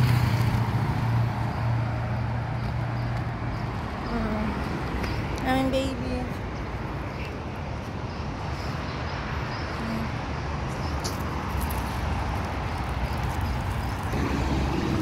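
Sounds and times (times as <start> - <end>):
traffic running by: 0.0 - 15.0.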